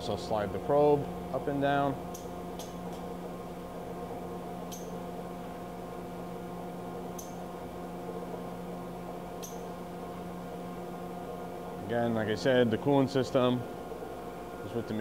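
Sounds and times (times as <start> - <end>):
grinder electrical hum: 0.0 - 15.0.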